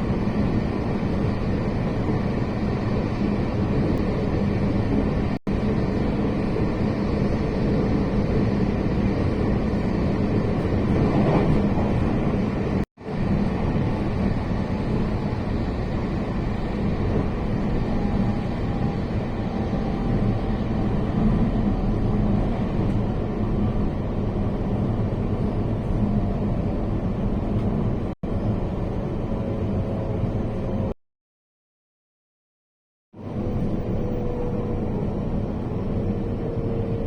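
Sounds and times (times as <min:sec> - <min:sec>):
train rumbling inside carriage: 0:00.0 - 0:31.0, 0:33.2 - 0:37.0.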